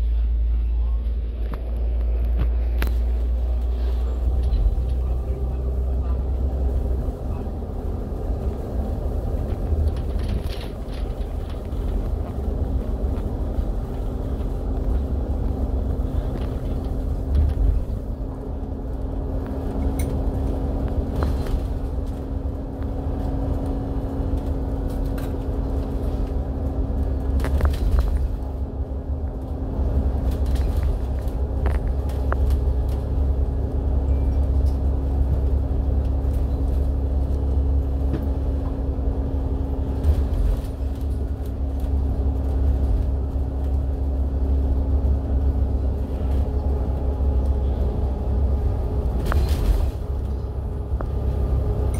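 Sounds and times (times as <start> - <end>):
bus engine and road rumble: 0.0 - 51.9.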